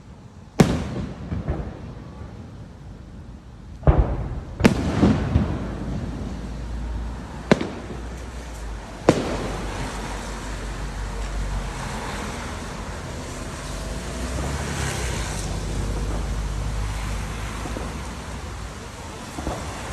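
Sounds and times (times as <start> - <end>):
fireworks bangs: 0.0 - 19.9
fireworks crackle: 0.0 - 19.9.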